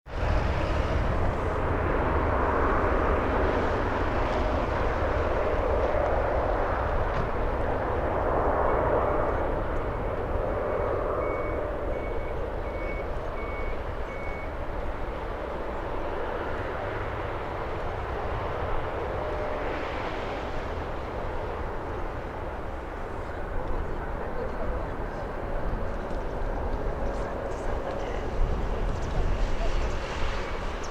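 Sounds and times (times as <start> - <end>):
distant jet engines rumbling: 0.1 - 30.9.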